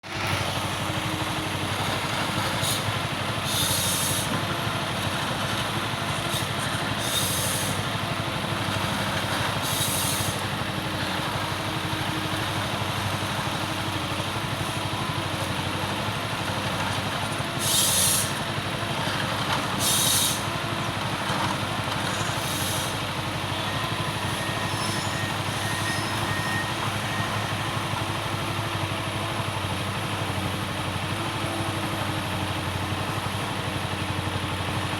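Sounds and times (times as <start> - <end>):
forestry machine engine running: 0.0 - 34.9.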